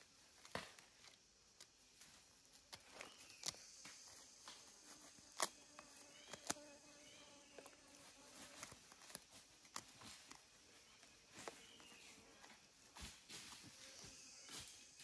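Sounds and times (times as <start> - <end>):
fly buzzing: 2.0 - 15.0.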